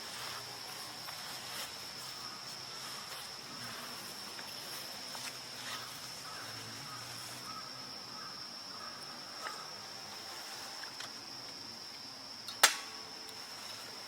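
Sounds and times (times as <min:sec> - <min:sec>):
insect high-pitched singing: 0:00.0 - 0:14.0.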